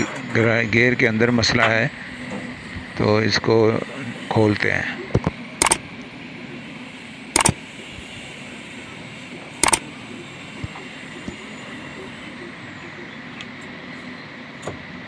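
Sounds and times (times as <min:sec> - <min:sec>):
workshop background noise: 0:00.0 - 0:15.0.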